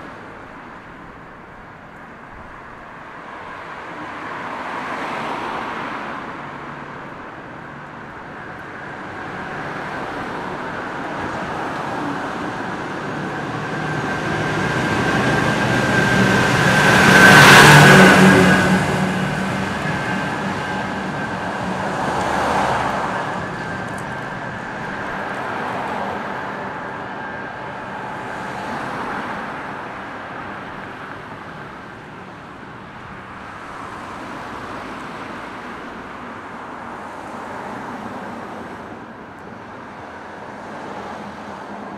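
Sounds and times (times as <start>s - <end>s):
car passing: 0.0s - 41.9s
faint vehicles passing: 0.0s - 41.9s.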